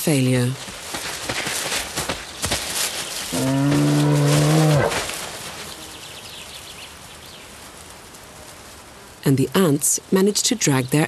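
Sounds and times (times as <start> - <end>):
crackling of needles and twigs: 0.0 - 11.0.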